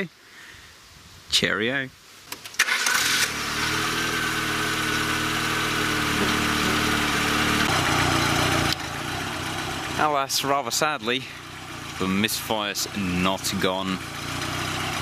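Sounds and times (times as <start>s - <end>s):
car engine starting and idling: 2.3s - 15.0s.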